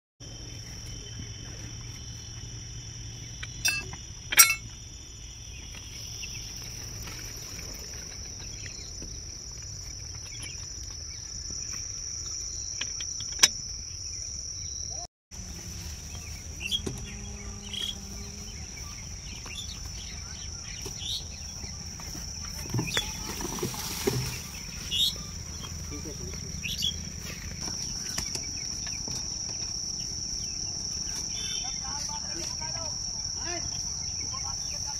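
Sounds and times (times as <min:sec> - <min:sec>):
insects shrilling: 0:03.2 - 0:34.9.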